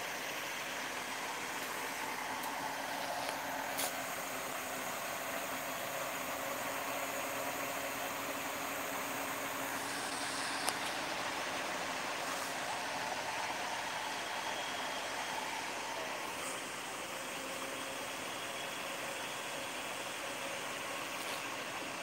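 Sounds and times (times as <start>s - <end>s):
crane engine idling: 0.0s - 22.0s.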